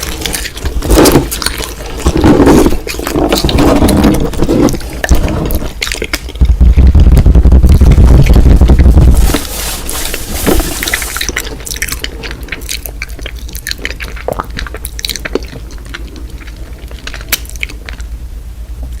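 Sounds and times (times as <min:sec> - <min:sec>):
chewing and crunching mouth sounds: 0:00.0 - 0:18.3.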